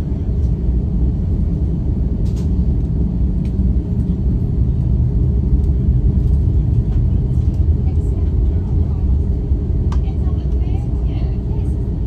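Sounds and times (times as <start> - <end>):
airliner cabin rumble taxiing: 0.0 - 12.0.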